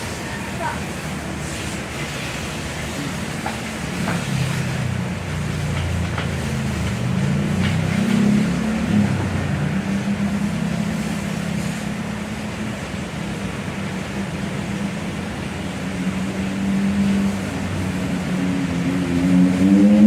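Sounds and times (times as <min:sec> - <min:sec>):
hiss: 0:00.0 - 0:20.0.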